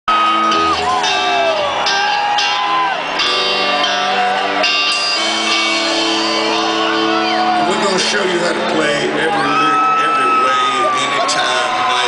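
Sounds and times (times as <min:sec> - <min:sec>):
electric guitar bending notes: 0:00.1 - 0:09.9
live rock band playing: 0:00.1 - 0:12.0.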